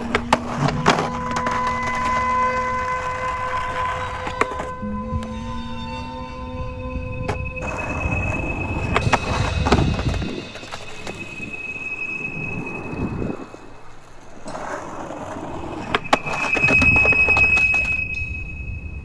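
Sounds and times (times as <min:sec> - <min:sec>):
skateboard wheels rolling on asphalt: 0:00.0 - 0:04.8, 0:07.3 - 0:19.0.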